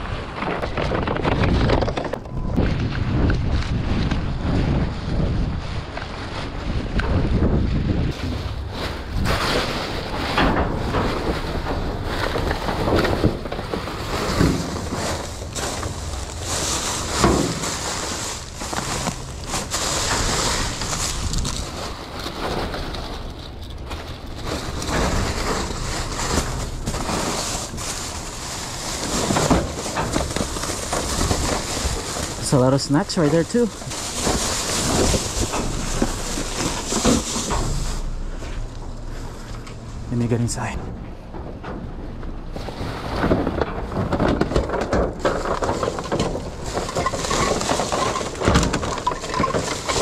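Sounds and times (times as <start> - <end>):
plastic bags rustling: 0.0 - 40.7, 42.3 - 50.0
wind rumble on microphone: 0.0 - 50.0.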